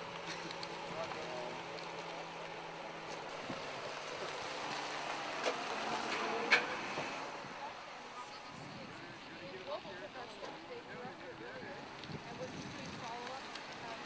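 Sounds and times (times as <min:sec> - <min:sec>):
street noise: 0:00.0 - 0:14.0.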